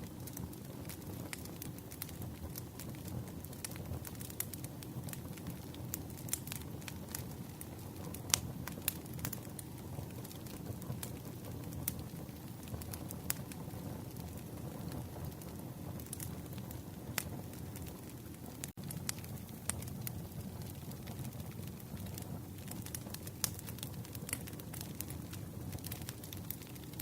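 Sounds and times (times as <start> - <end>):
campfire crackling and popping: 0.0 - 27.0
low fire rumble: 0.0 - 27.0.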